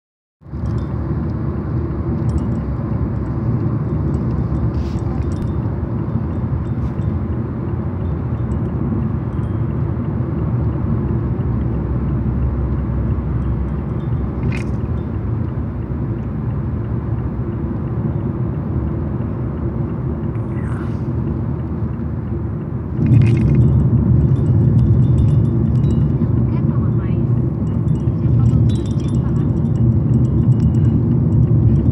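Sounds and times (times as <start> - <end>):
low rumble: 0.4 - 31.9.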